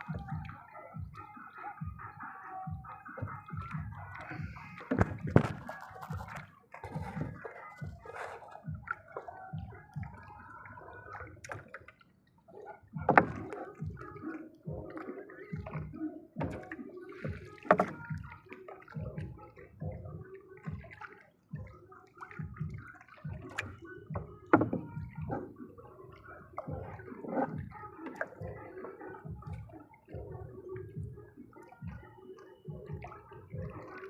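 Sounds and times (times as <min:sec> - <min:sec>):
water sloshing and gurgling: 0:00.0 - 0:34.0.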